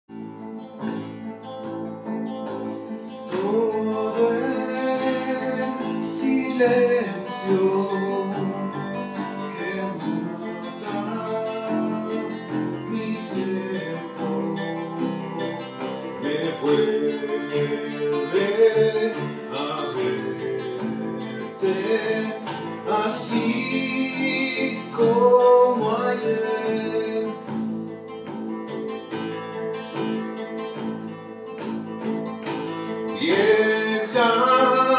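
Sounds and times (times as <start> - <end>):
classical guitar: 0.0 - 34.9
acoustic bass guitar: 0.1 - 34.9
harmonica melody: 0.1 - 34.9.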